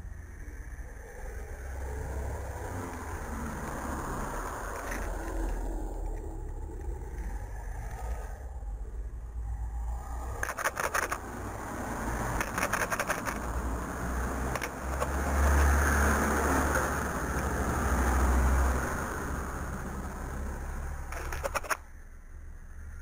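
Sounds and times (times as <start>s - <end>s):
car passing: 0.0s - 23.0s.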